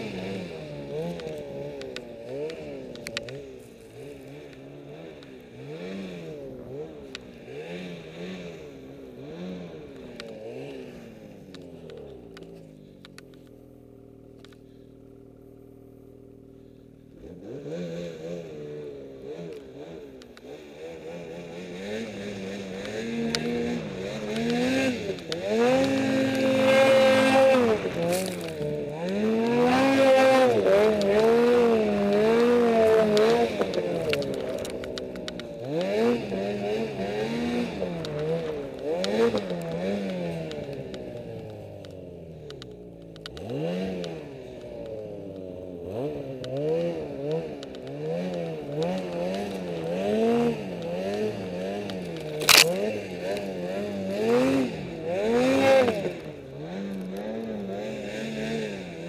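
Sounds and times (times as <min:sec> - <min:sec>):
snowmobile engine revving: 0:00.0 - 0:12.9, 0:17.1 - 0:59.0.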